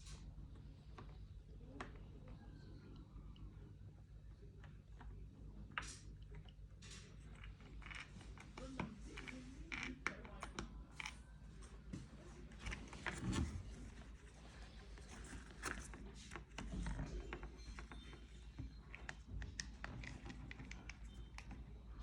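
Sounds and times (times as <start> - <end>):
steady low hum: 0.0 - 22.0
small clicks taps and scrapes: 4.3 - 22.0.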